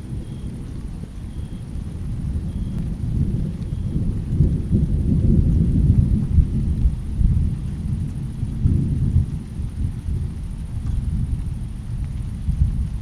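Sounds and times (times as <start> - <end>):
rain: 0.0 - 13.0
rolling thunder rumble: 0.0 - 13.0.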